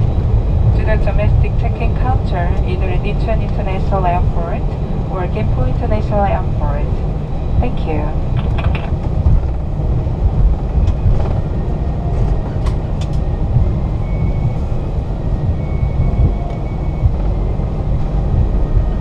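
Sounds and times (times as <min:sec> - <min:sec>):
aircraft cabin low rumble: 0:00.0 - 0:19.0.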